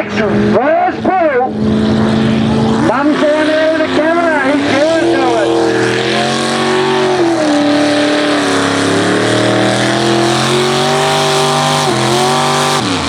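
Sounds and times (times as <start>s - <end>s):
engine revving hard under load: 0.0s - 13.0s.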